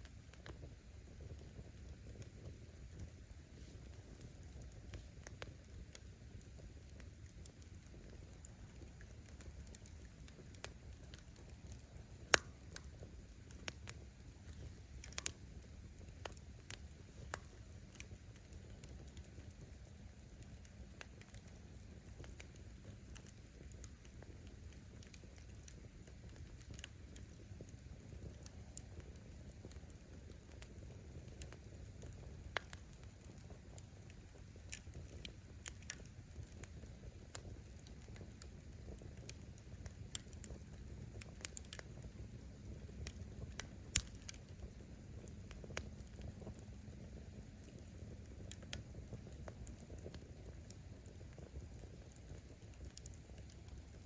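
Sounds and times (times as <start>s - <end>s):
firewood crackling: 0.0s - 54.0s
low rumble of flames: 0.0s - 54.0s.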